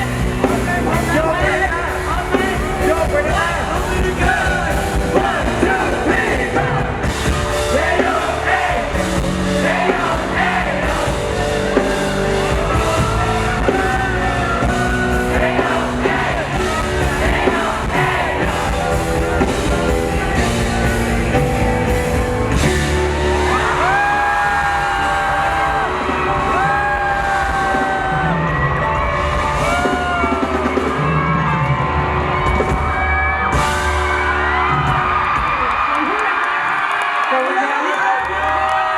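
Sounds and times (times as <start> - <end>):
live rock band with singing: 0.0 - 35.9.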